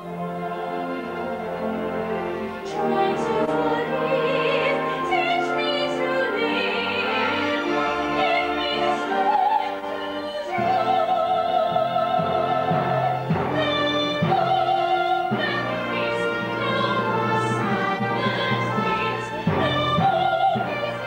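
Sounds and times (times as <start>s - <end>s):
orchestral accompaniment: 0.0s - 21.0s
woman singing operatically: 2.6s - 21.0s.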